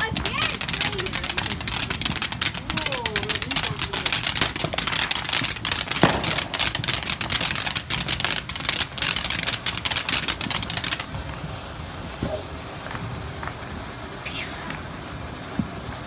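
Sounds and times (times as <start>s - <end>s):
firework fountain crackling: 0.0s - 16.0s.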